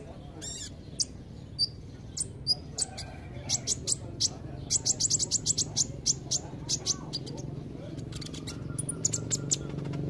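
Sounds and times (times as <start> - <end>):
sunbird high chirps: 0.1 - 9.9.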